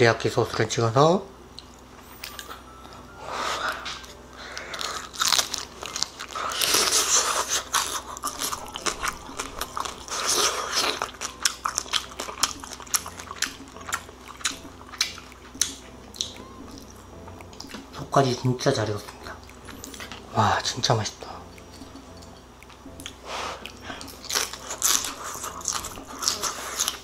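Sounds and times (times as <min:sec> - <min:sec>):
person chewing crunchy food: 0:03.6 - 0:20.7, 0:21.4 - 0:27.0.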